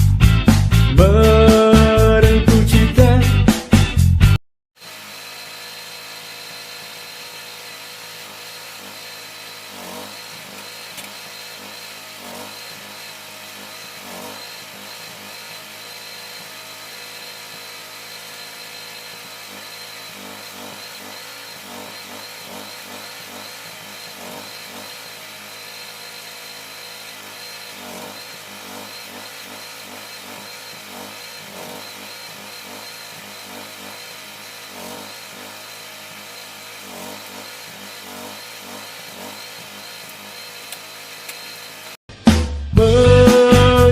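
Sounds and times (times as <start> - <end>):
power tool motor whining: 4.8 - 42.0.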